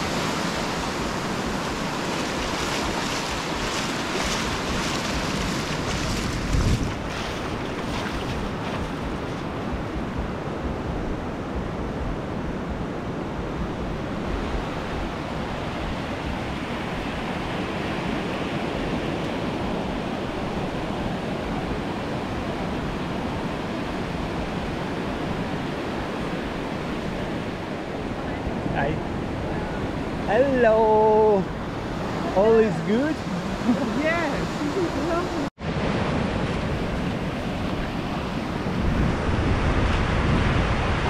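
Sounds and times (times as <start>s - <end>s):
surf breaking on sand: 0.0s - 11.0s, 13.8s - 41.0s
wind rumbling on microphone: 0.0s - 41.0s.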